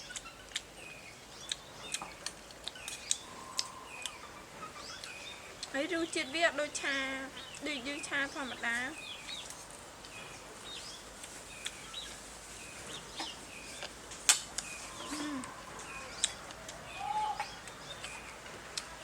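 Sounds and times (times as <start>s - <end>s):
chickens chirping and clucking: 0.0s - 19.0s.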